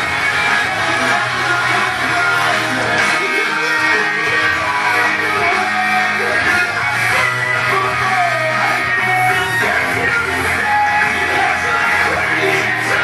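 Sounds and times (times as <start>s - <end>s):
person singing: 0.0s - 13.0s
rock song with electric guitar: 0.0s - 13.0s.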